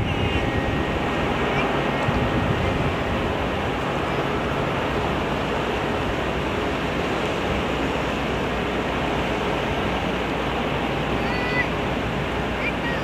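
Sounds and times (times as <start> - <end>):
churning water: 0.0 - 13.0
ship engines humming: 0.0 - 13.0
wind: 0.0 - 13.0.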